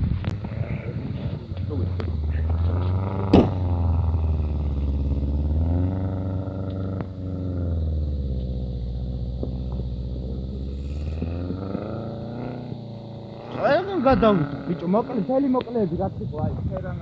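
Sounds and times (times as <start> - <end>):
car engine revving: 0.3 - 16.8.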